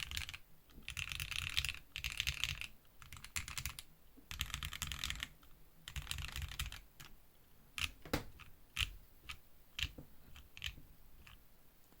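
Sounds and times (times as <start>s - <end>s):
mechanical keyboard typing: 0.0s - 7.2s, 7.8s - 11.4s.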